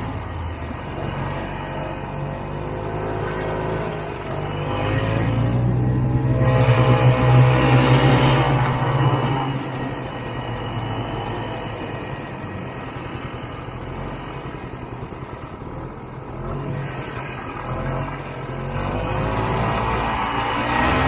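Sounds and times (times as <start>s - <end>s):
snowmobile two-stroke engine: 0.0s - 21.0s.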